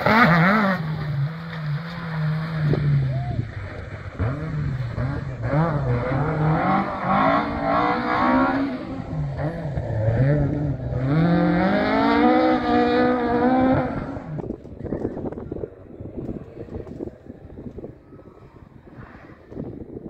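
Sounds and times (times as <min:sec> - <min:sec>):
rally car engine revving: 0:00.0 - 0:17.9.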